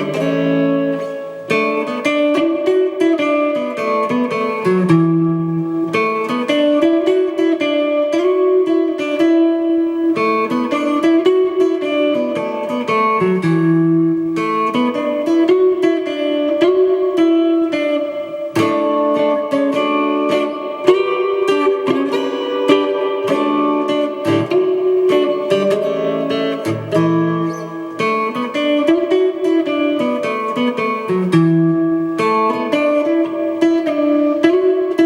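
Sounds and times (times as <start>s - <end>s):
electric guitar melody: 0.0s - 35.0s.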